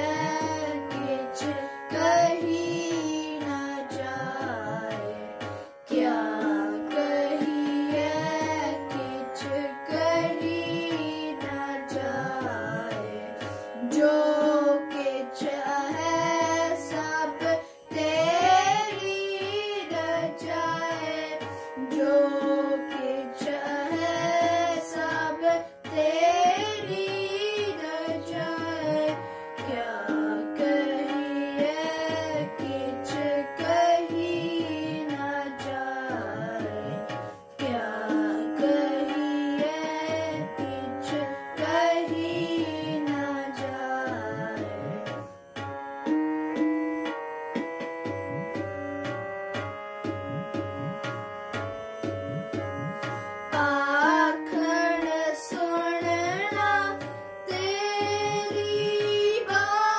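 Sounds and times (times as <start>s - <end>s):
instrumental accompaniment: 0.0s - 59.9s.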